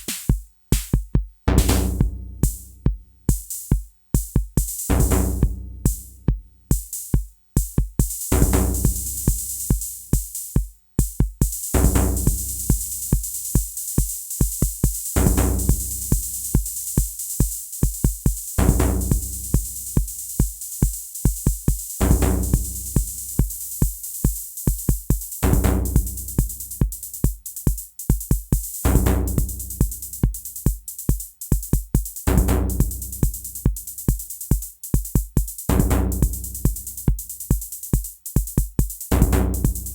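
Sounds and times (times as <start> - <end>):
electronic drum pattern: 0.0 - 39.9.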